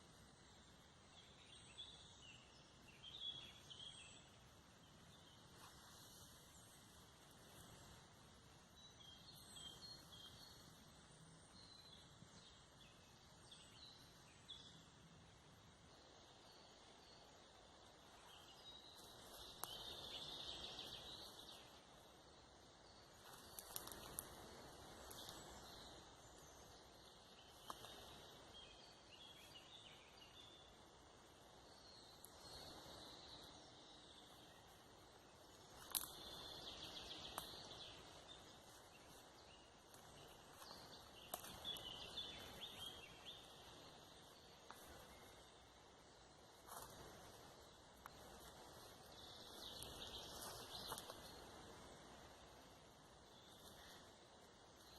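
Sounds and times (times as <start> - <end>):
birdsong chirping: 8.7 - 14.8, 16.0 - 54.9.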